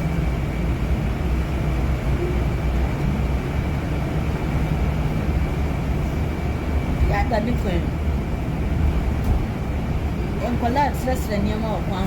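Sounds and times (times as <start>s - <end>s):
vehicle rumble from inside: 0.0s - 12.0s.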